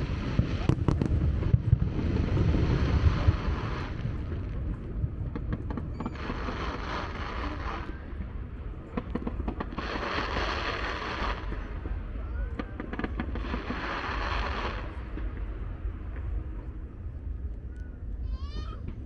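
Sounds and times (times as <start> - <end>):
distant fireworks boom: 0.0 - 17.6
firework pops and crackles: 0.0 - 19.0.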